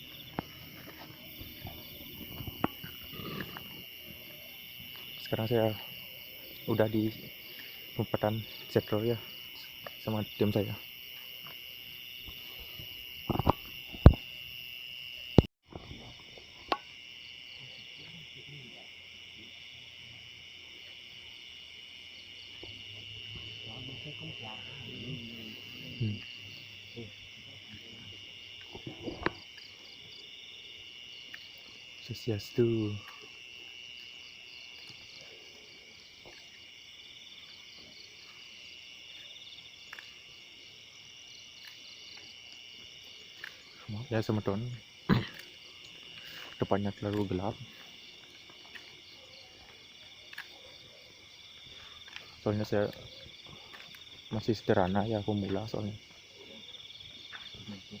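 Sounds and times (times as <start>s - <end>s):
crickets trilling: 0.0s - 58.0s
night insects chorus: 0.0s - 58.0s.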